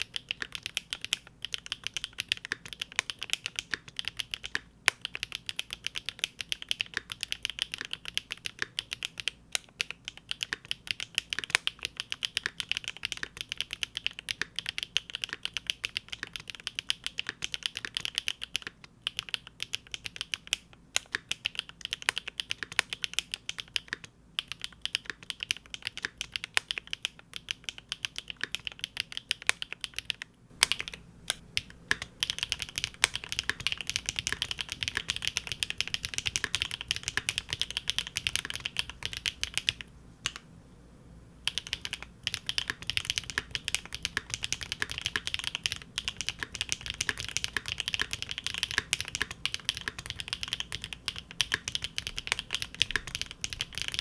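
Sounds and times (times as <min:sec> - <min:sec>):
mechanical keyboard typing: 0:00.0 - 0:40.5, 0:41.4 - 0:54.0.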